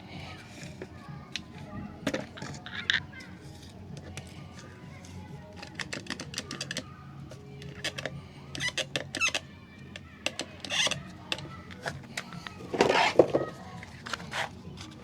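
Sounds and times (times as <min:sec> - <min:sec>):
saw handling clicks and squeaks: 0:02.0 - 0:14.9.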